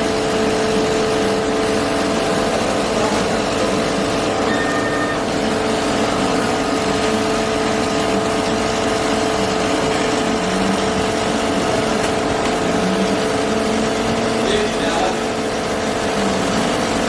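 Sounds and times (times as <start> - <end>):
machine motor droning: 0.0 - 17.0.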